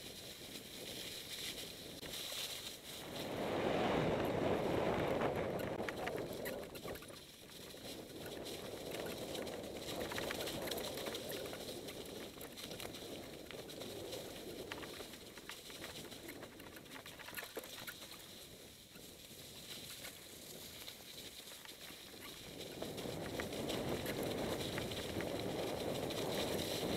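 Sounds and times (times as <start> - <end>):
bike rattling: 0.0 - 18.5, 19.1 - 26.9
bike tyres crunching leaves and stones: 0.0 - 26.9.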